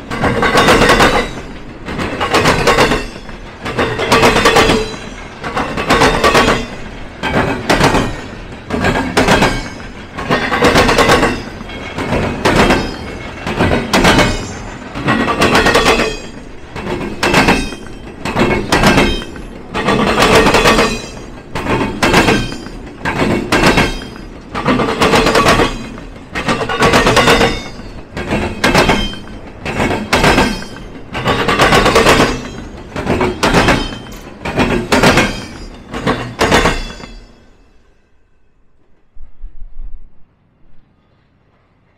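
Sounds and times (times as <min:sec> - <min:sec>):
train wheels clattering over crossing: 0:00.0 - 0:37.8.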